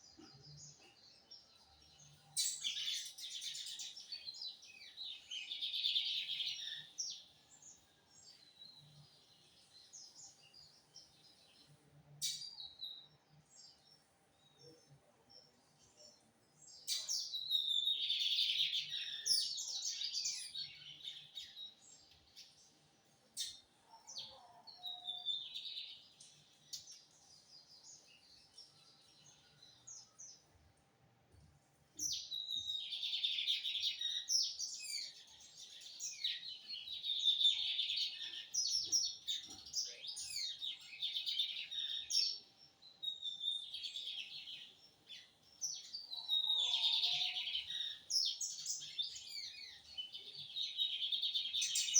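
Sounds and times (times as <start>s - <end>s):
bird twittering song: 0.0s - 30.6s, 31.4s - 51.9s.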